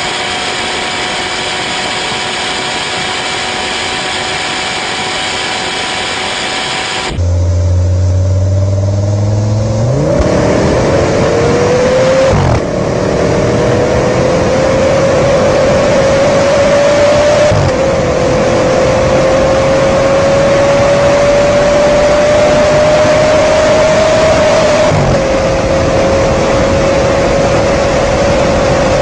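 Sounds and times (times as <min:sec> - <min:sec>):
car engine revving: 0:00.0 - 0:29.0
mechanical whine: 0:00.0 - 0:29.0.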